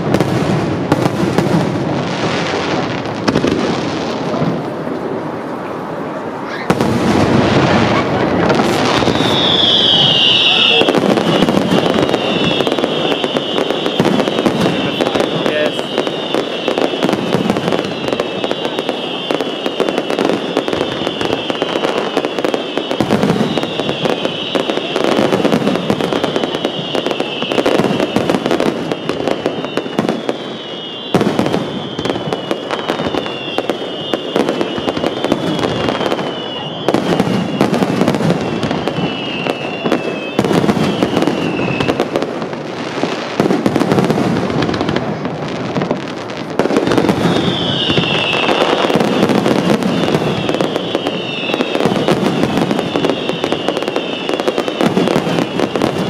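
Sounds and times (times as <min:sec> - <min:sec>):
firework bursts and crackling: 0:00.0 - 0:56.0
falling firework whistles: 0:06.4 - 0:56.0.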